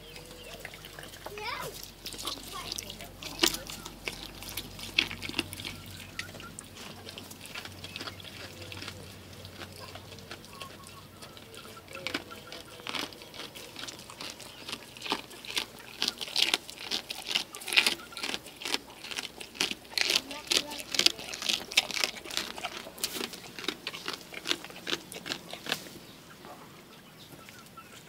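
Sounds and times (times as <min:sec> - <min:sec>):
goat chewing wetly: 0:00.0 - 0:28.0.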